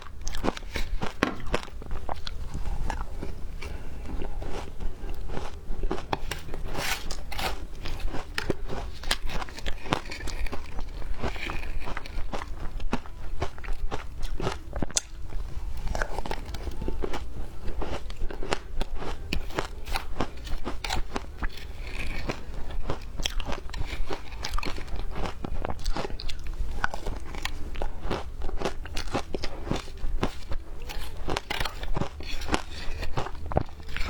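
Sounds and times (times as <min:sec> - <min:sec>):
person chewing ice: 0:00.0 - 0:34.0.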